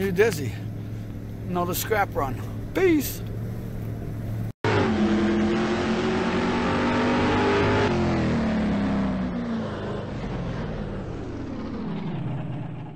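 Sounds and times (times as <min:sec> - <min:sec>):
road noise: 0:00.0 - 0:12.9
vehicle engine running: 0:00.0 - 0:12.9.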